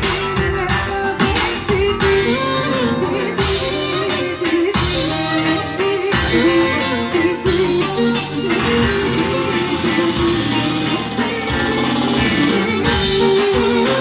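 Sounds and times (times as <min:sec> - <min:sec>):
electric guitar: 0:00.0 - 0:14.0
woman singing into a microphone: 0:00.0 - 0:14.0.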